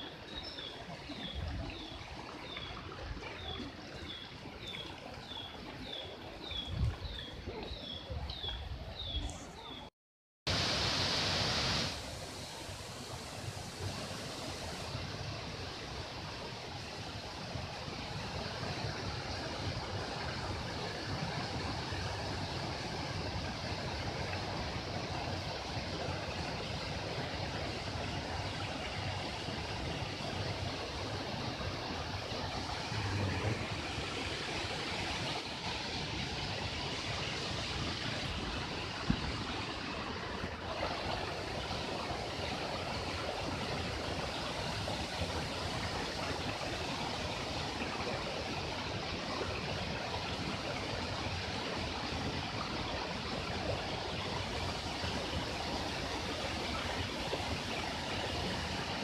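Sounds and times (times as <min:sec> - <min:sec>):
rocky mountain stream: 0:00.0 - 0:09.9, 0:10.5 - 0:59.0
water rushing from small waterfall: 0:10.5 - 0:59.0.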